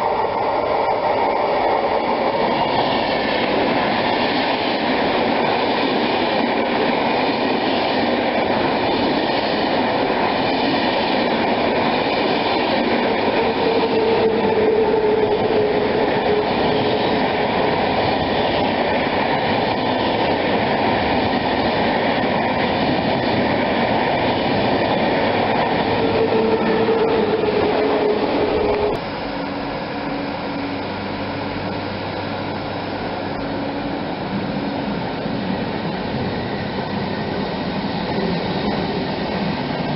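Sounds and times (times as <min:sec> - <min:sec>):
train rolling on track: 0:00.0 - 0:39.9
train whine: 0:00.0 - 0:39.9.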